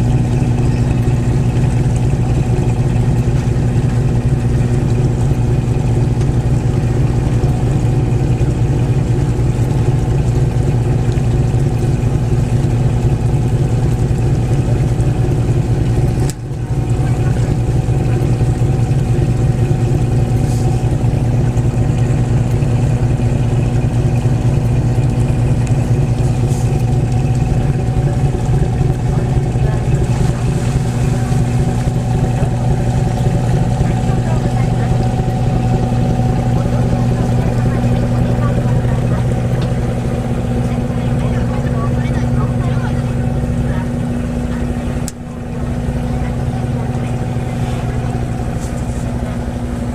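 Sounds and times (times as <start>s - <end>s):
boat diesel engine humming: 0.0s - 49.9s.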